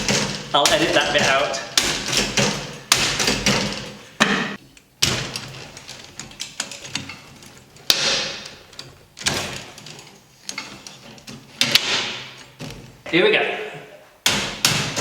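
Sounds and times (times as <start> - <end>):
hard parts knocking: 0.0 - 13.0, 14.2 - 15.0.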